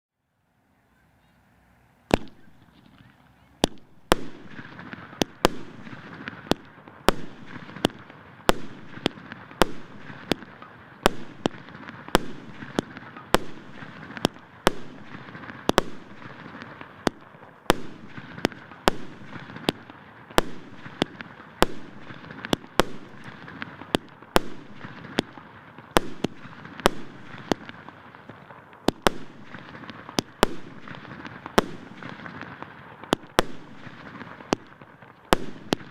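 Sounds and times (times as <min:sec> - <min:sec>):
firework cake sharp bangs: 0:02.1 - 0:35.9.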